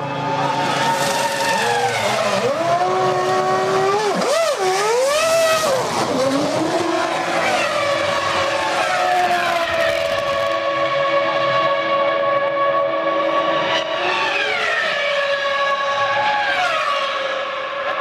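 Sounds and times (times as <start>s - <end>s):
racing car engine revving: 0.0s - 17.6s.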